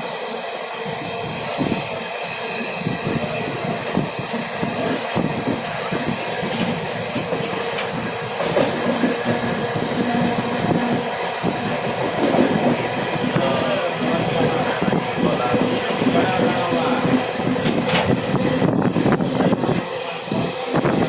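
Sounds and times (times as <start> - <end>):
steady train hum: 0.0 - 21.0
train wheels clattering on rails: 1.2 - 21.0.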